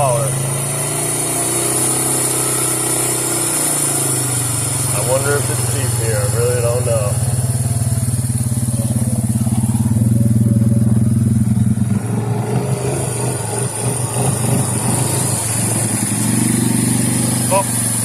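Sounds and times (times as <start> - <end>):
single-cylinder engine running: 0.0 - 18.0.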